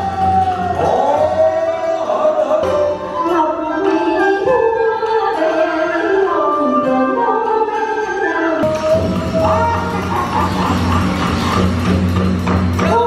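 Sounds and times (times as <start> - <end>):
traditional music with sliding melody: 0.0 - 13.0.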